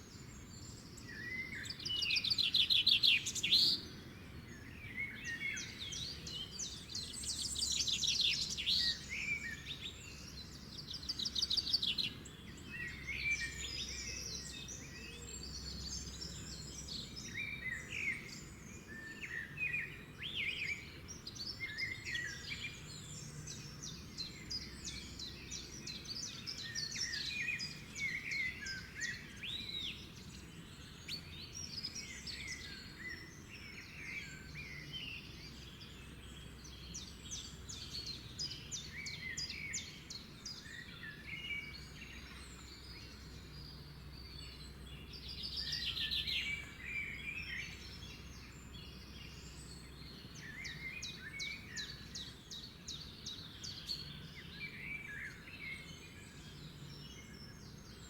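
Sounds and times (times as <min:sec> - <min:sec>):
songbirds singing and trilling: 0:00.0 - 0:58.0.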